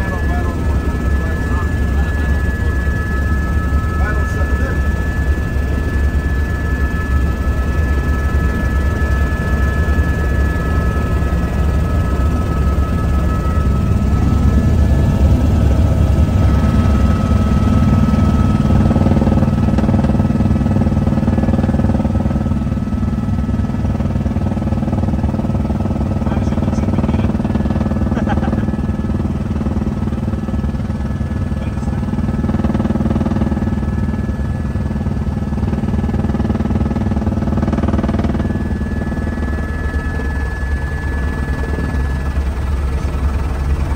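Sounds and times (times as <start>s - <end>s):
helicopter rotor drone: 0.0s - 43.9s.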